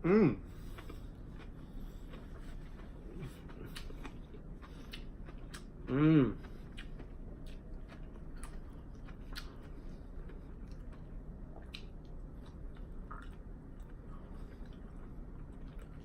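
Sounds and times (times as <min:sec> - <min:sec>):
low background hum: 0:00.0 - 0:16.0
person chewing food: 0:00.4 - 0:16.0.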